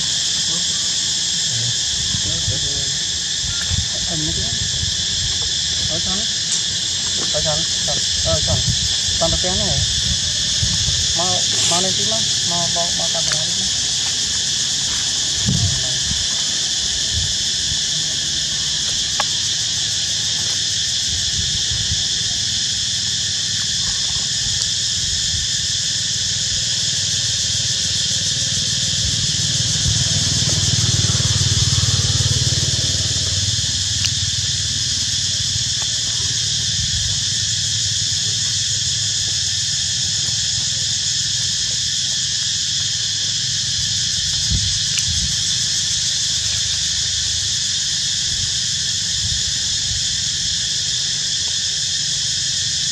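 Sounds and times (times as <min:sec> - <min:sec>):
insects buzzing: 0:00.0 - 0:52.9.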